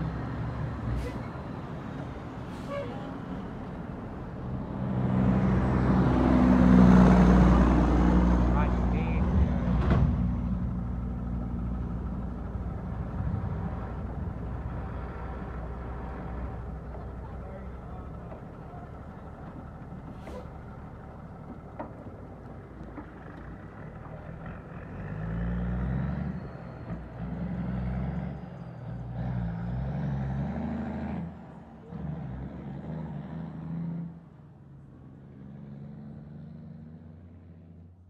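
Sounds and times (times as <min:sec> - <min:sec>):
diesel truck accelerating: 0:00.0 - 0:38.0.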